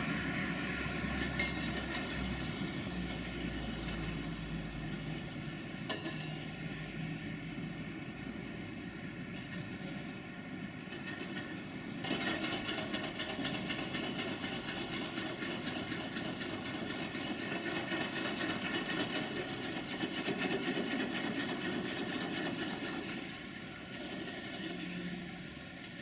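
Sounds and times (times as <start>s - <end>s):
freight wagons rolling on track: 0.0s - 26.0s.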